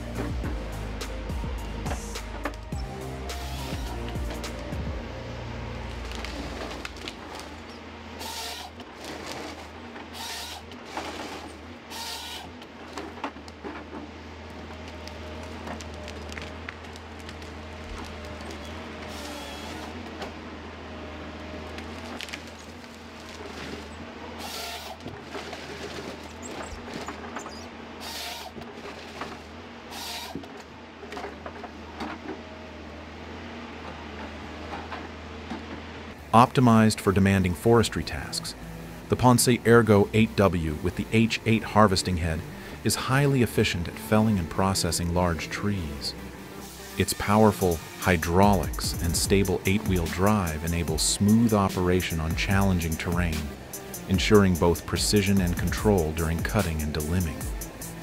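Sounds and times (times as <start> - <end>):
heavy machine engine hum: 0.0 - 58.0.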